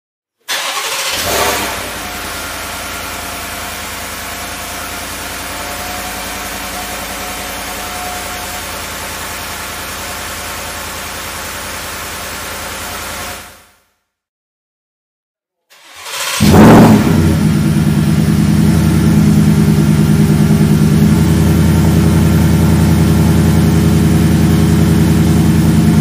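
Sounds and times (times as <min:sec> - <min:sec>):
truck engine idling: 0:00.5 - 0:13.5, 0:17.1 - 0:26.0.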